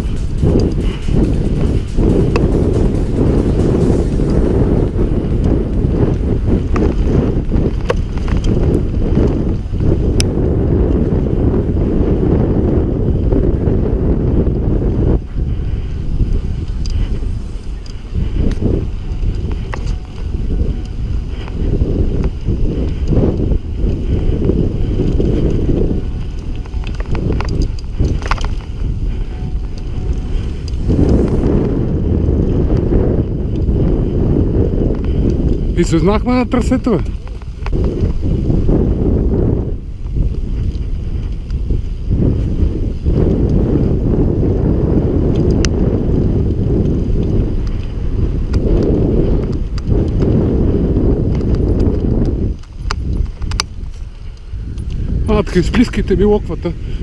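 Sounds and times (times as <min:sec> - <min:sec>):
bike clicks: 0:00.0 - 0:57.0
wind buffeting microphone: 0:00.0 - 0:57.0.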